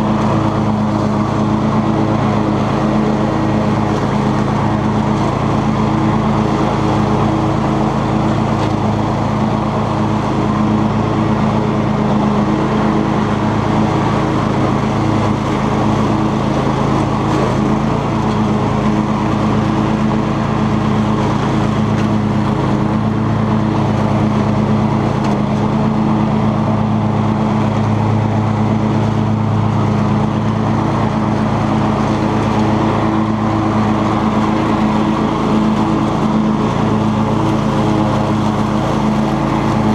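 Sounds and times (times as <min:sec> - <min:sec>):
lawn tractor engine running: 0:00.0 - 0:39.9
mower deck cutting grass: 0:00.0 - 0:39.9.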